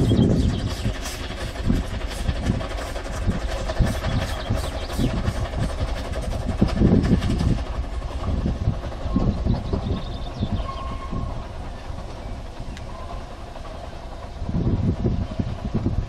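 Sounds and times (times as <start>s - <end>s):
steam exhaust pulses: 0.0s - 16.0s
steam locomotive rumble: 0.0s - 16.0s.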